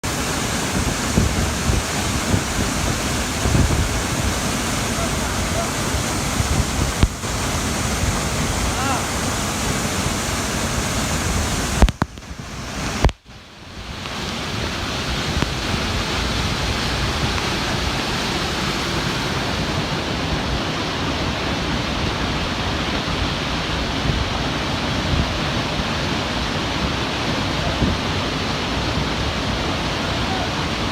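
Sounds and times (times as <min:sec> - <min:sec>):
flowing water rushing: 0:00.0 - 0:30.9.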